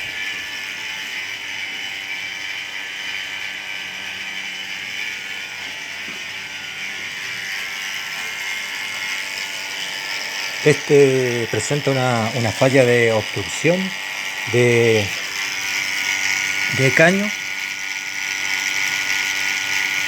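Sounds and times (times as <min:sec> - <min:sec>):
refrigeration compressor running: 0:00.0 - 0:20.0.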